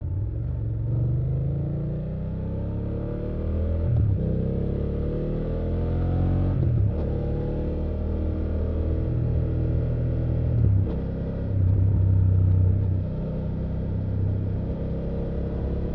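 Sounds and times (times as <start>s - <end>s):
motorcycle engine accelerating: 0.1s - 15.9s.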